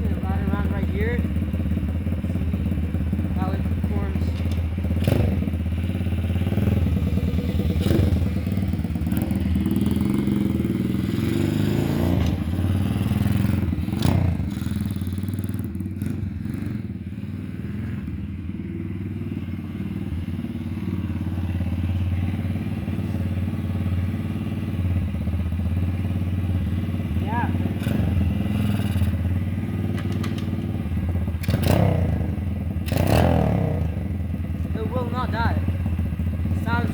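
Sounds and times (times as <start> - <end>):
dirt bike engine running: 0.0 - 36.9.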